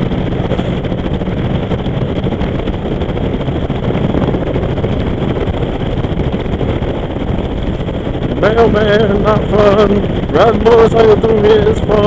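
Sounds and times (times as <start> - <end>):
motorcycle engine at road speed: 0.0 - 12.0
wind rushing over microphone: 0.0 - 12.0.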